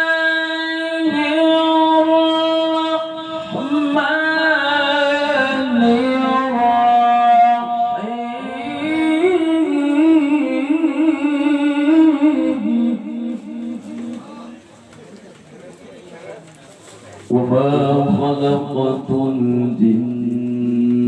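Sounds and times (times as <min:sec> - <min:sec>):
man chanting melodically: 0:00.0 - 0:14.8, 0:17.2 - 0:21.0.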